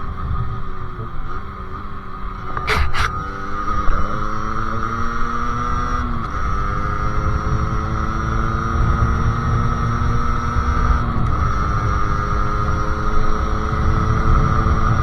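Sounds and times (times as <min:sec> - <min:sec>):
motorcycle engine revving: 0:00.1 - 0:15.0.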